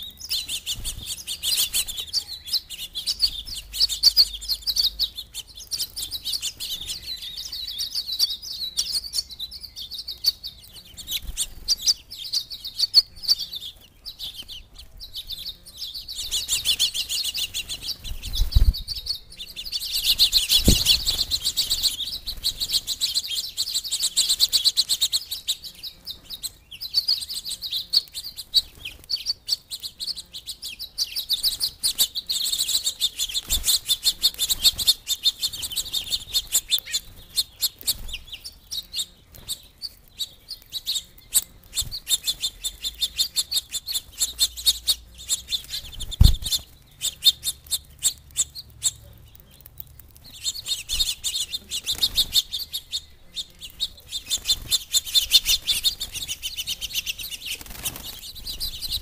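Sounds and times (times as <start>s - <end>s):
small songbirds chirping: 0.0s - 59.0s.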